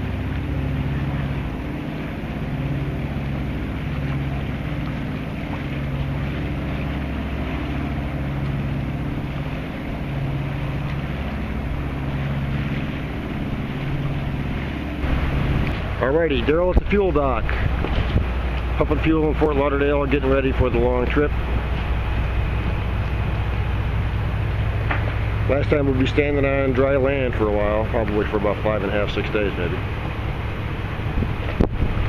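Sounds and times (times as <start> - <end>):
boat diesel engine hum: 0.0 - 32.0
water noise: 0.0 - 32.0
wind: 0.0 - 32.0.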